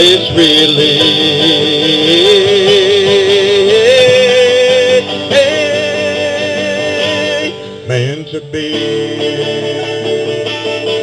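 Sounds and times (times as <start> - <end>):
country guitar accompaniment: 0.0 - 11.0.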